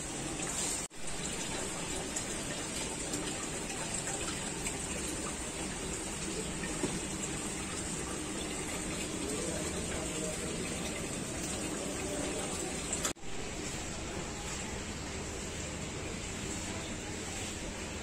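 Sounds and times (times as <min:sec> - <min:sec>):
aquarium water bubbling: 0:00.0 - 0:18.0.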